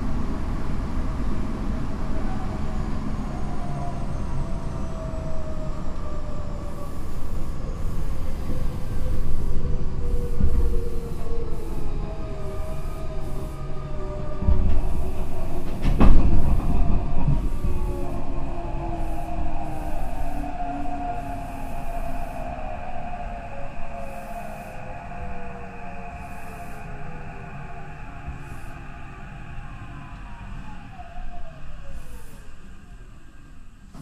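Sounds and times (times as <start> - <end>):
train motor whine: 0.0 - 34.0
wheels rumbling on rail: 0.0 - 34.0.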